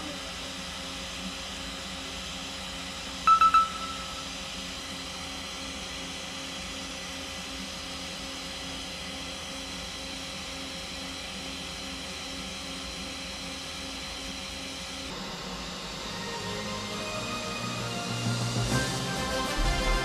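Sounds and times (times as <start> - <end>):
machine drone with pulse: 0.0 - 20.0.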